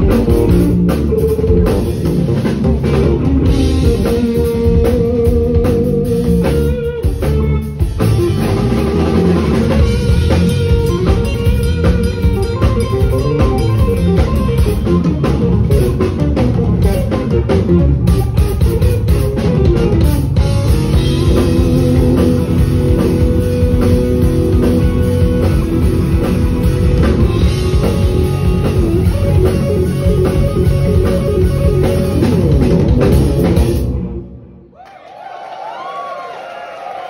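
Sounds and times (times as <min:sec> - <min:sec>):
drum kit: 0:00.0 - 0:34.4
electric guitar melody: 0:00.0 - 0:34.6
bass guitar: 0:00.0 - 0:34.7.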